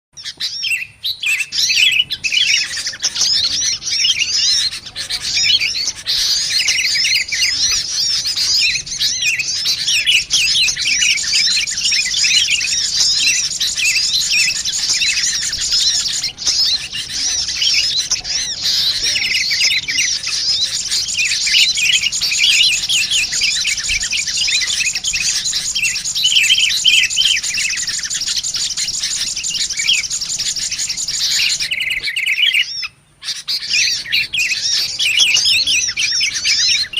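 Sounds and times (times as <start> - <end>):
birds chirping and twittering: 0.2 - 36.9.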